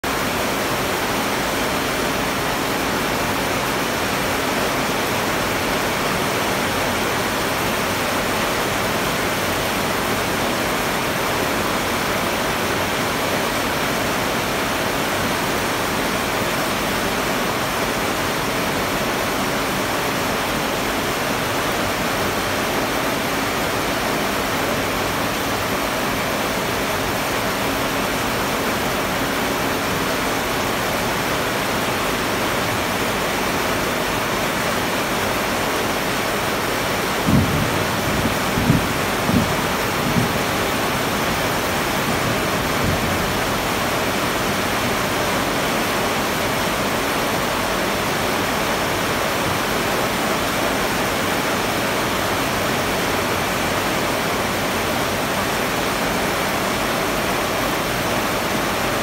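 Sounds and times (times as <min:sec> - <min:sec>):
heavy rain falling: 0:00.0 - 0:59.0
water pouring off roof: 0:00.0 - 0:59.0.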